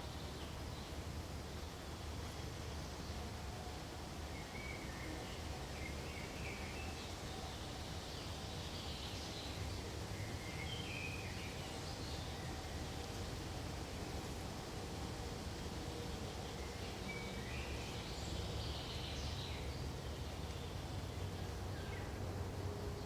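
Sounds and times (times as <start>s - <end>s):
low forest background hush: 0.0s - 23.0s.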